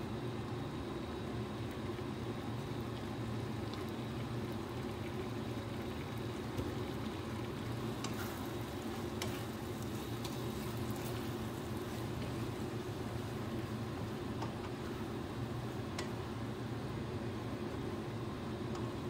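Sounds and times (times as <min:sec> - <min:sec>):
sauce sizzling in a pan: 0:00.5 - 0:16.7.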